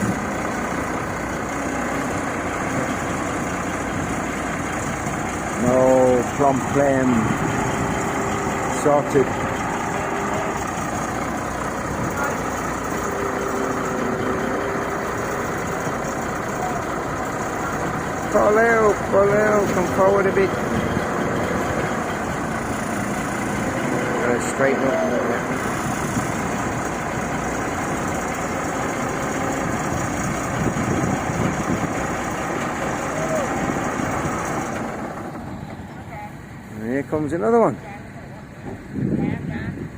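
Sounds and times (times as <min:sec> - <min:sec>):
large vehicle engine running: 0:00.0 - 0:39.9.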